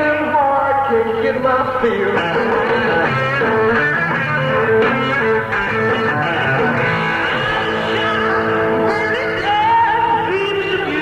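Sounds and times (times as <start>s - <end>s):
electric guitar: 0.0s - 11.0s
live rock band playing: 1.8s - 11.0s.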